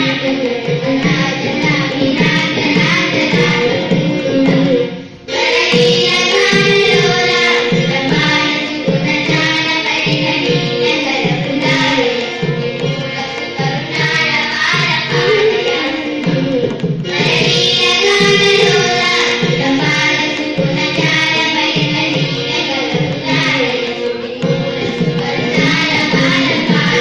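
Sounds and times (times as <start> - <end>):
girls choir singing in unison: 0.0 - 27.0
hand drum steady beat: 0.0 - 27.0
violin: 0.0 - 27.0.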